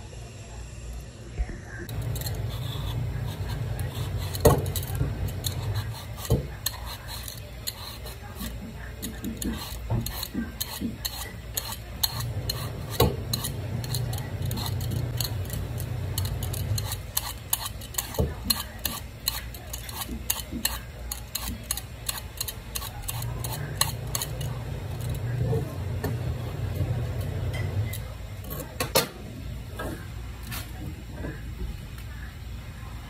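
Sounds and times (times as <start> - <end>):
knife cutting apples: 1.9 - 28.8.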